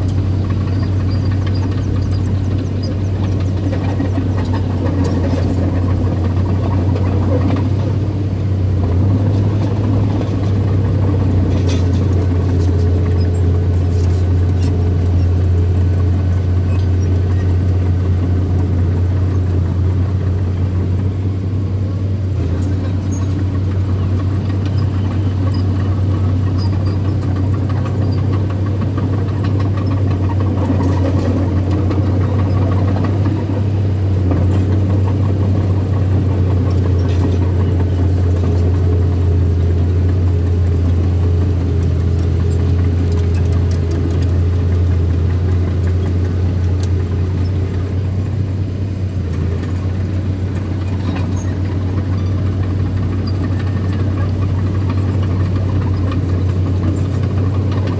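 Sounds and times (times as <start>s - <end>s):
heavy machinery engine droning: 0.0s - 57.9s.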